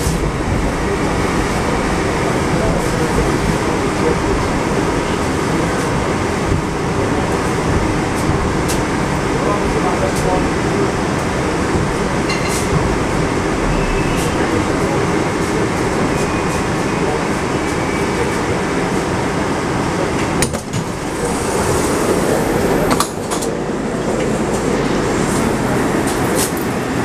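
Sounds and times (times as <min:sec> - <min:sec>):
metro train running and stopping: 0:00.0 - 0:27.0
train doors opening: 0:00.0 - 0:27.0.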